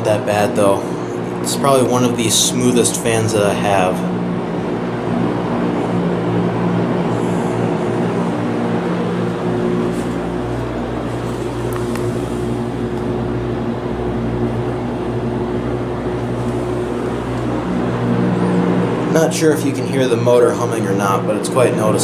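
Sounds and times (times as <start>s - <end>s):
box fan air rush: 0.0s - 22.0s
fan motor hum: 0.0s - 22.0s.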